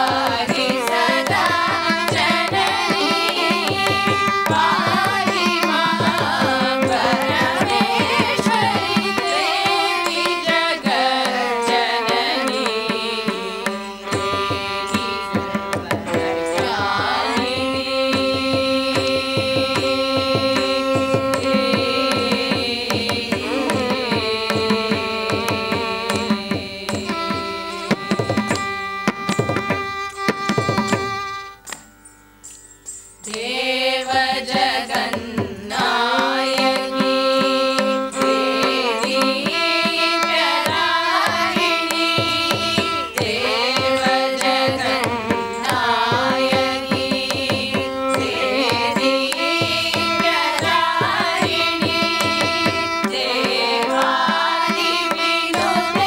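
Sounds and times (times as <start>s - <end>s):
women singing in unison: 0.0s - 31.2s, 33.2s - 56.0s
violin: 0.0s - 56.0s.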